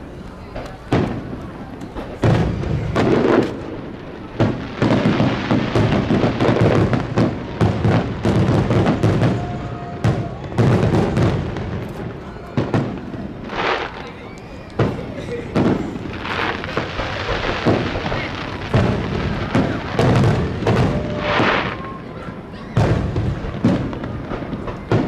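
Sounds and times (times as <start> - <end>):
fireworks booming and crackling: 0.0 - 25.0.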